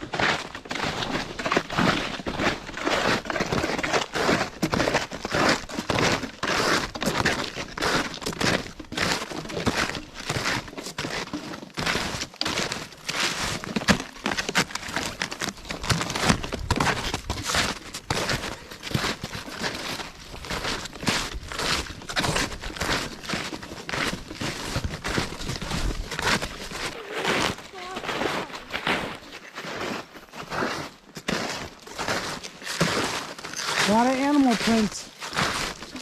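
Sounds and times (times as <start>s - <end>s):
snowshoes crunching through snow: 0.1s - 36.0s.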